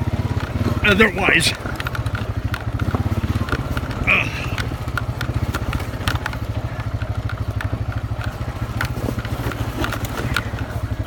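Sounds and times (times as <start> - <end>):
quad bike engine running: 0.0 - 11.0
clicks and knocks from rocks: 1.6 - 11.0.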